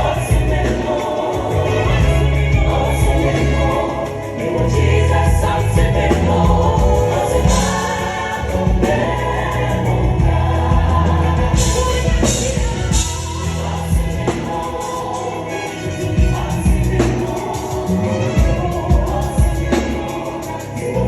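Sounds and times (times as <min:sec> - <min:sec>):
band playing: 0:00.0 - 0:21.0
group singing gospel: 0:00.0 - 0:21.0
held bass notes: 0:00.0 - 0:21.0.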